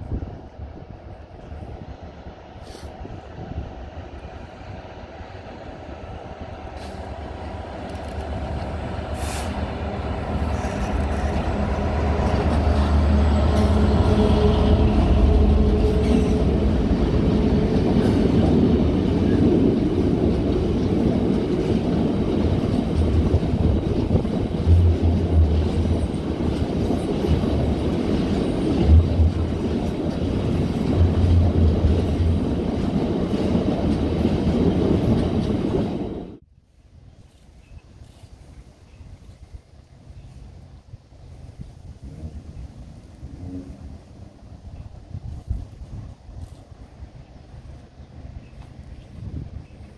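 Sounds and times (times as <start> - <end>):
diesel locomotive engine rumble: 0.0 - 49.9.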